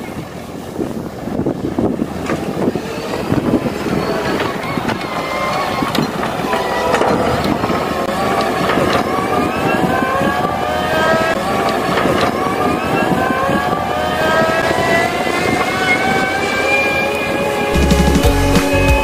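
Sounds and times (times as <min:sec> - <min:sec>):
loader engine whine: 0:00.0 - 0:19.0.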